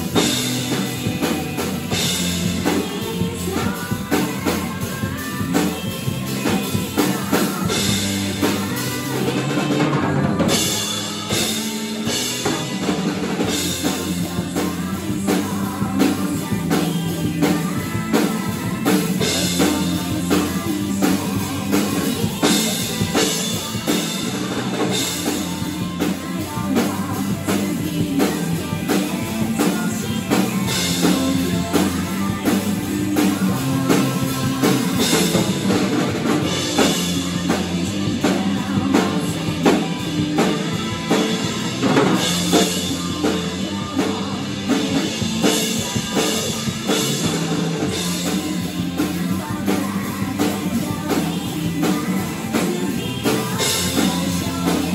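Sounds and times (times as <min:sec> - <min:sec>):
drum kit beat: 0:00.0 - 0:54.9.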